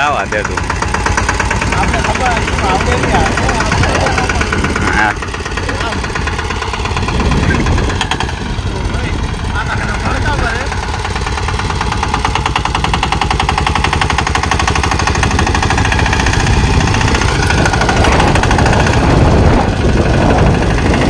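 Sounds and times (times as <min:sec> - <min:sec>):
tractor engine chugging: 0:00.0 - 0:21.0.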